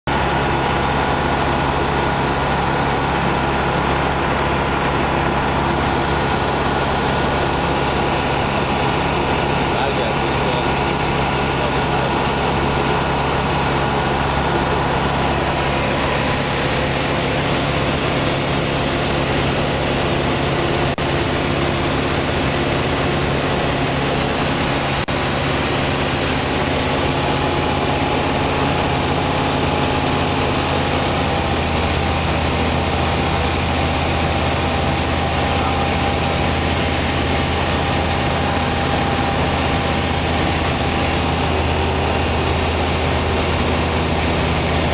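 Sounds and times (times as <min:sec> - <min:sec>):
aircraft engine and propeller: 0:00.1 - 0:44.9.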